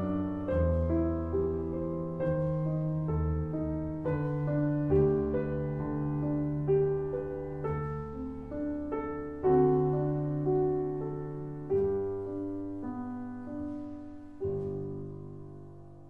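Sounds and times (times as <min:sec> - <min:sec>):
solo piano chords: 0:00.0 - 0:16.0.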